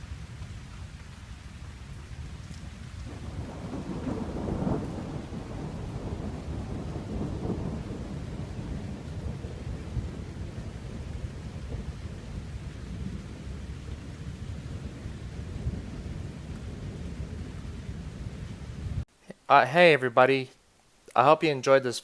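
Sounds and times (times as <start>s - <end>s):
thunder rumbling: 0.0s - 19.0s
rain: 0.0s - 19.4s.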